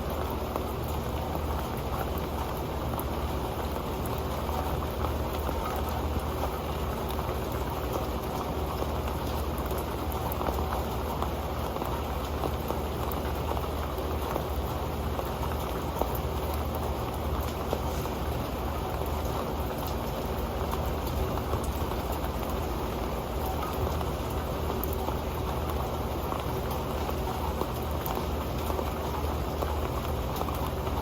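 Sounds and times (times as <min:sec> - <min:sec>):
rain on a metal pan: 0:00.0 - 0:31.0.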